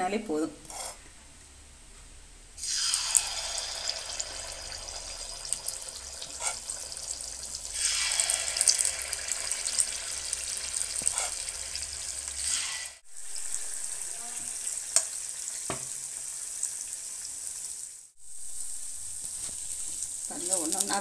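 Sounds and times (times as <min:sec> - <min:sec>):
batter sizzling in hot oil: 0:02.6 - 0:21.0.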